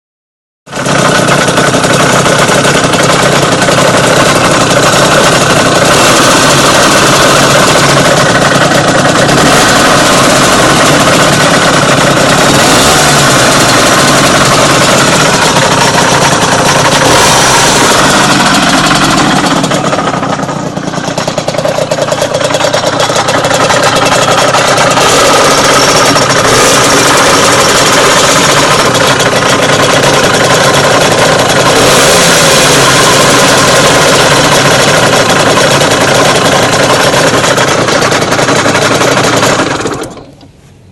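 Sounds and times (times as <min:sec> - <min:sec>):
engine running close up: 0:00.7 - 0:40.6.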